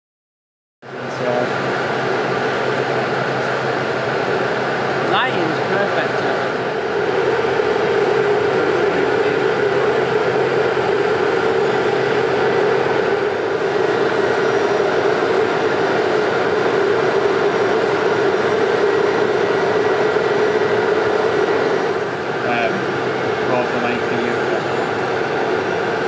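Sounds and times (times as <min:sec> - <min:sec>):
machinery drone: 0:00.9 - 0:26.0.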